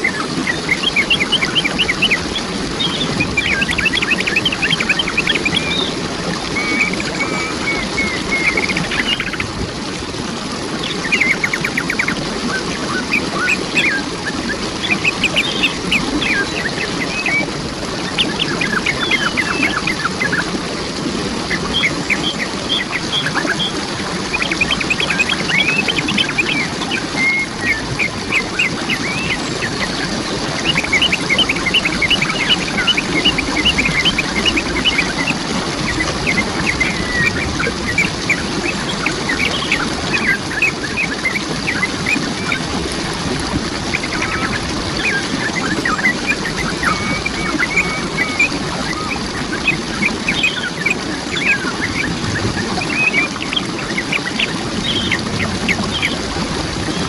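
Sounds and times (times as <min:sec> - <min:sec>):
birds trilling: 0:00.0 - 0:09.4, 0:10.8 - 0:20.5, 0:21.5 - 0:42.7, 0:43.9 - 0:57.0
waterfall rushing: 0:00.0 - 0:57.0.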